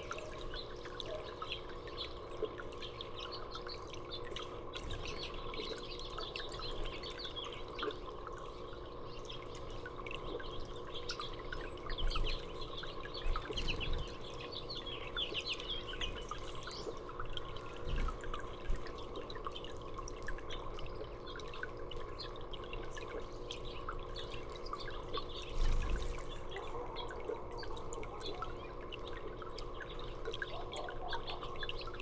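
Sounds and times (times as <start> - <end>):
songbirds chirping: 0.0 - 32.0
water dripping and trickling: 0.0 - 32.0.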